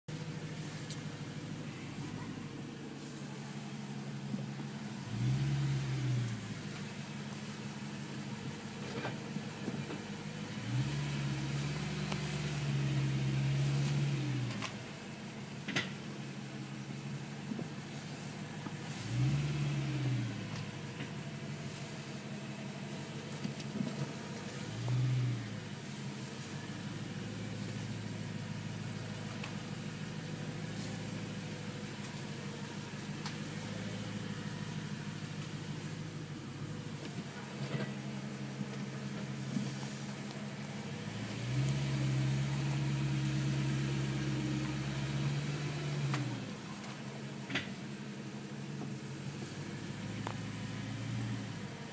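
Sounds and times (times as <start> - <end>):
car engine idling and revving: 0.0 - 51.9
engine ticking noise: 0.1 - 51.9.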